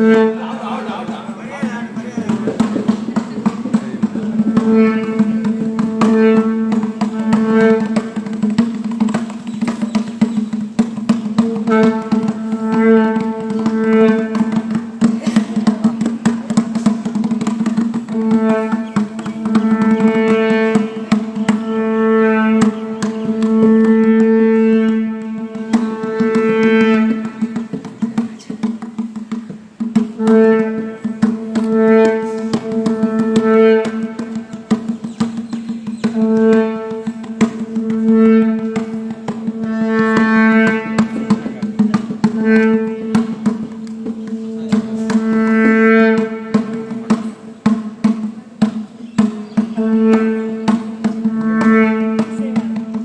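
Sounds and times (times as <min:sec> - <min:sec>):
nadaswaram melody: 0:00.0 - 0:53.0
tavil drum strokes: 0:00.0 - 0:53.0.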